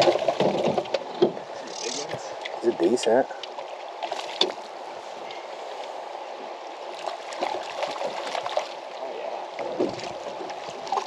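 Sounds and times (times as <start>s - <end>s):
river water lapping against boat: 0.0s - 11.0s.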